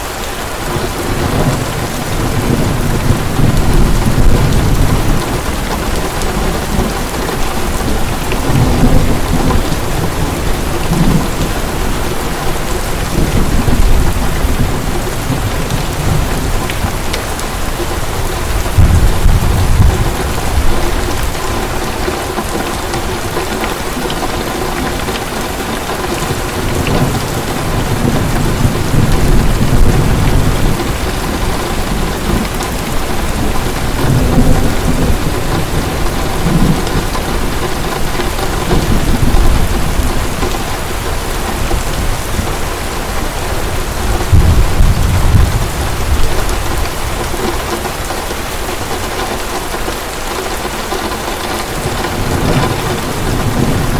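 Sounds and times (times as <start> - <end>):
heavy rain pouring: 0.0 - 53.9
distant thunder rumbling: 0.6 - 53.9.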